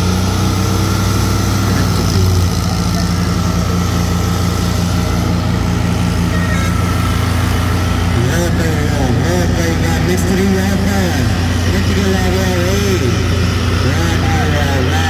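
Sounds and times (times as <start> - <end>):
tractor diesel engines under heavy load: 0.0 - 15.0.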